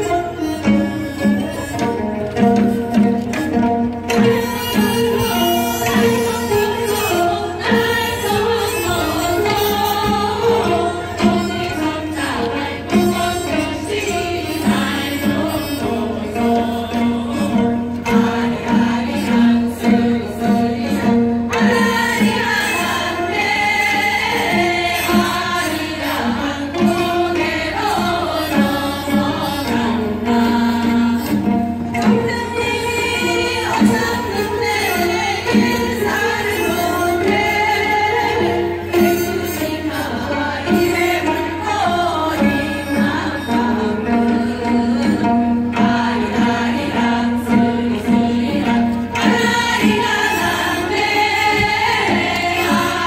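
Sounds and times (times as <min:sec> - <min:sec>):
zithers playing folk tune: 0:00.0 - 0:53.0
choir singing: 0:04.2 - 0:53.0.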